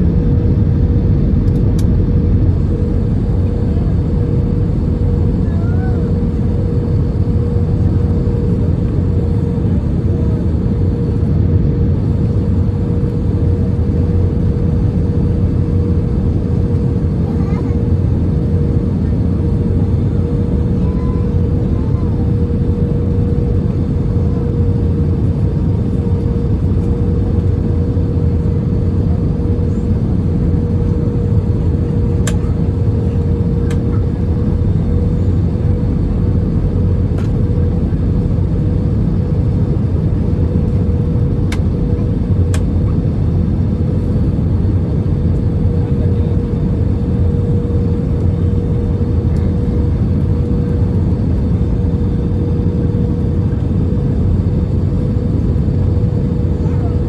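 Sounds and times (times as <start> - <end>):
steady hum: 0.0 - 56.4
airliner cabin engine rumble: 0.0 - 57.0.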